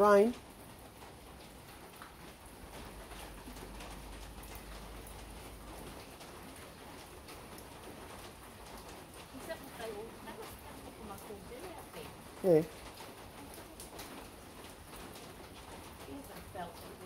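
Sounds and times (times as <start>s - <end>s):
rain falling on wet paving: 0.0s - 17.0s.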